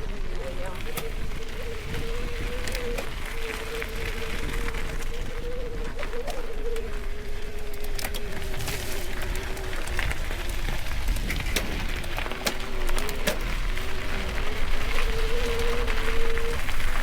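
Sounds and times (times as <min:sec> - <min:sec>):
bike whine: 0:00.0 - 0:17.0
wind on microphone: 0:00.0 - 0:17.0
bike knocks and rattles: 0:00.7 - 0:17.0.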